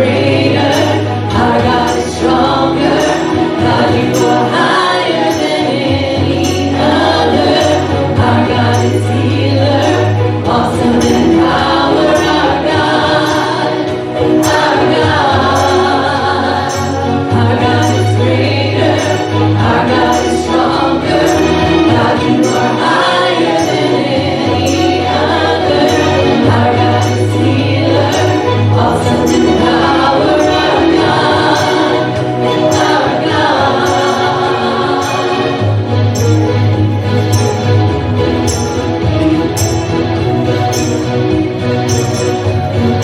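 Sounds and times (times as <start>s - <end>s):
voices singing: 0.0s - 43.0s
worship band playing: 0.0s - 43.0s.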